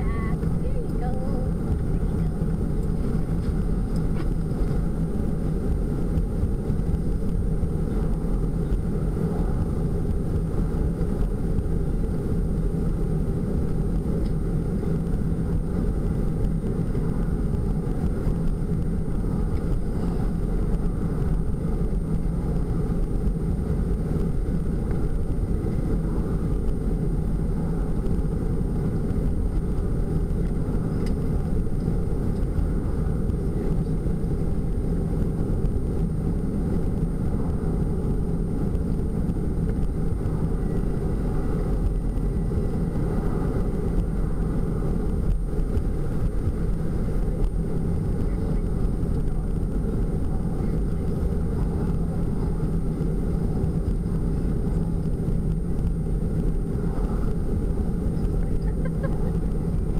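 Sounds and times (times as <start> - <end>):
van road and engine noise: 0.0 - 59.9.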